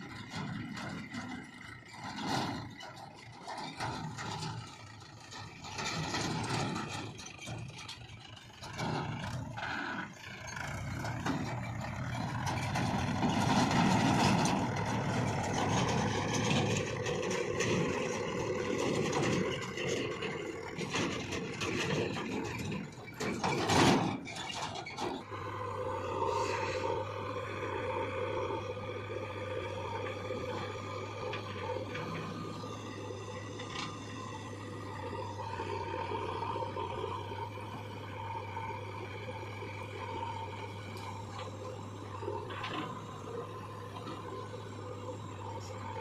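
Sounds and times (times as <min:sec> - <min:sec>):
backhoe loader working: 0:00.0 - 0:46.0
tractor running: 0:00.0 - 0:46.0.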